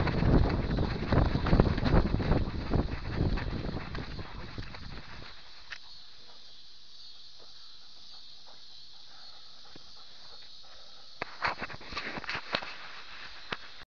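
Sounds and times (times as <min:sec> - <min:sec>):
faint rustles: 0:00.0 - 0:13.8
steady camera hiss: 0:00.1 - 0:13.8.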